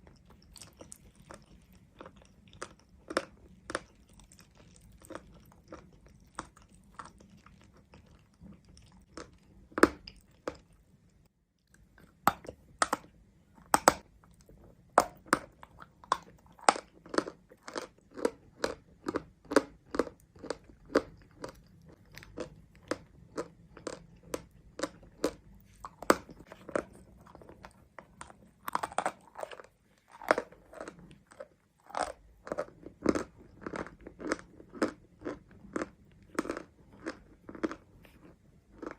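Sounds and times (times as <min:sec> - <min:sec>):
person chewing chalk crunches: 0:00.0 - 0:10.8, 0:11.6 - 0:38.9.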